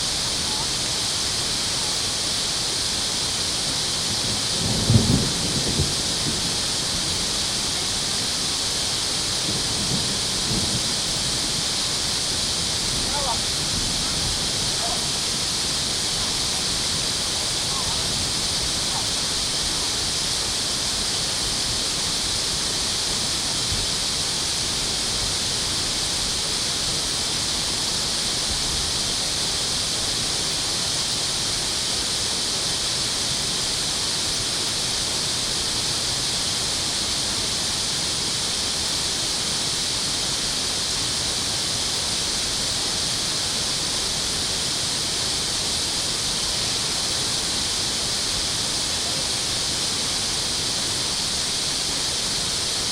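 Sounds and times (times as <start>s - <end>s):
water rushing: 0.0s - 52.9s.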